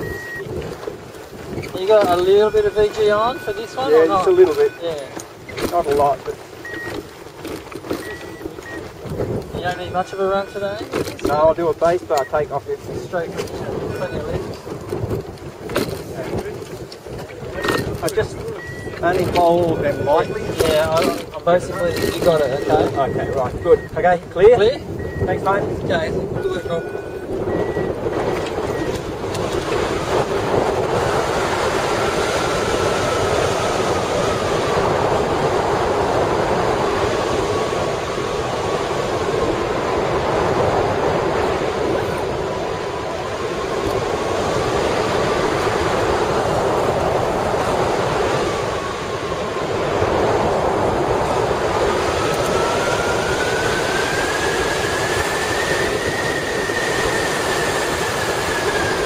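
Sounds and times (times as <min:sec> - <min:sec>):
wind roaring over microphone: 0:00.0 - 0:59.0.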